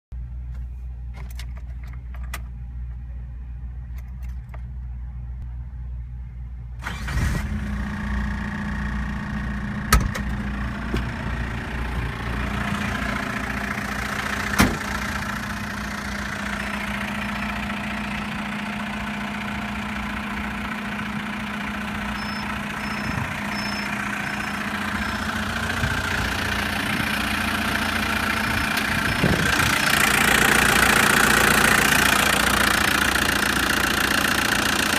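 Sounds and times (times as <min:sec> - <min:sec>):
diesel engine idling: 0:01.7 - 0:34.9.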